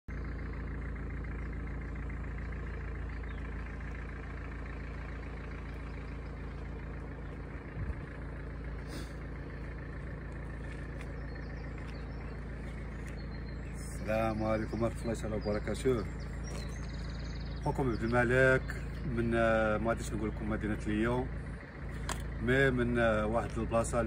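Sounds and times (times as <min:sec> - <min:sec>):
low engine-like hum: 0:00.1 - 0:24.0
outdoor background noise: 0:00.1 - 0:24.0.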